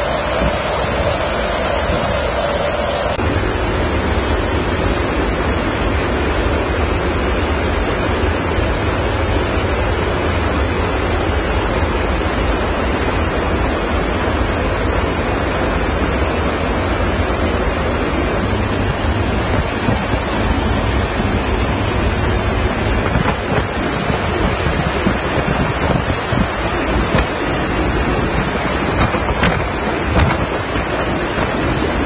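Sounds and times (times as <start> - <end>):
wind buffeting microphone: 0.0 - 6.8, 7.4 - 32.0
aircraft engine noise: 0.0 - 32.0
airflow rush: 0.0 - 32.0.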